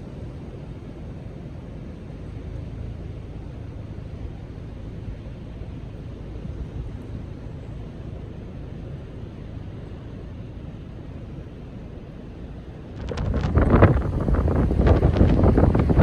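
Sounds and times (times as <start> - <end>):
strong gusty wind: 0.0 - 16.0
wind rumble on microphone: 0.0 - 16.0.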